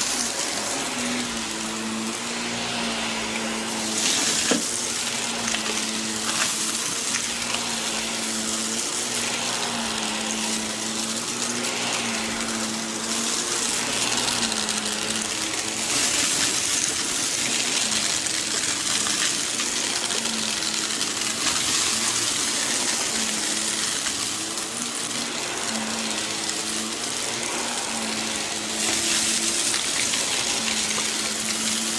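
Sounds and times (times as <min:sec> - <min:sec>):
floor-cleaning machine suction: 0:00.0 - 0:31.9.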